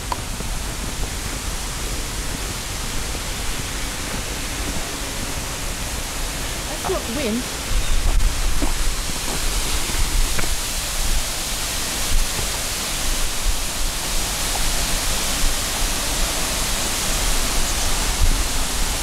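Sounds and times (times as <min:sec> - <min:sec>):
water rushing over dam: 0:00.0 - 0:19.0.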